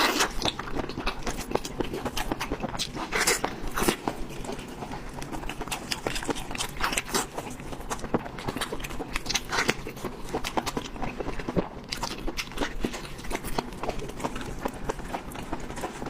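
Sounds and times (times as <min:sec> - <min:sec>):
chewing and biting meat: 0:00.0 - 0:16.0.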